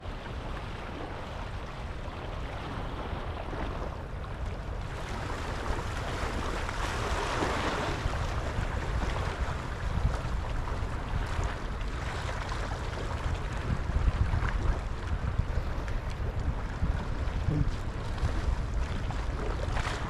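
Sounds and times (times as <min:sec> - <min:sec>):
wind rumbling on microphone: 0:00.0 - 0:20.0
sea water washing: 0:00.1 - 0:20.0.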